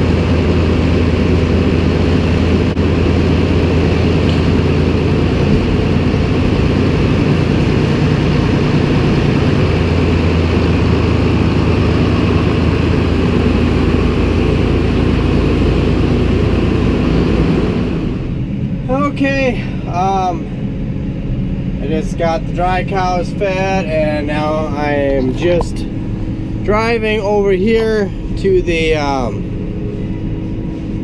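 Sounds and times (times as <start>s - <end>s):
tractor engine droning: 0.0s - 31.0s.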